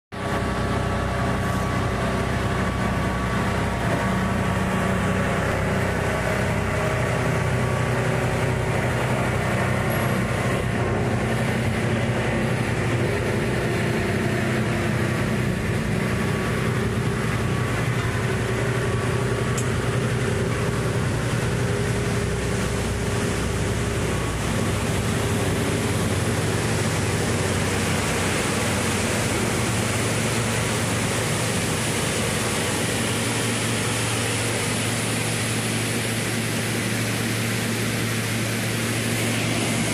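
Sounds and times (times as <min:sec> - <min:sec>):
industrial machinery drone: 0:00.1 - 0:39.9
machine hum tones: 0:00.2 - 0:39.9.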